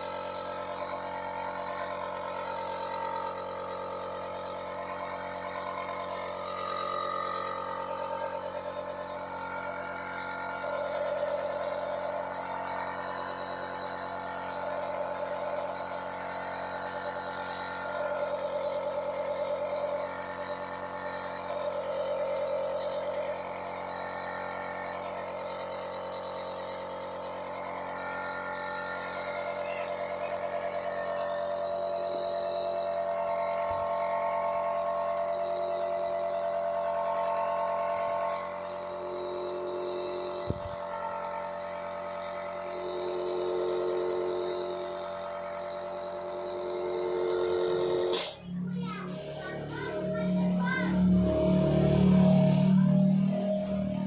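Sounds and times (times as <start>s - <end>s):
power tool motor running: 0.0s - 54.0s.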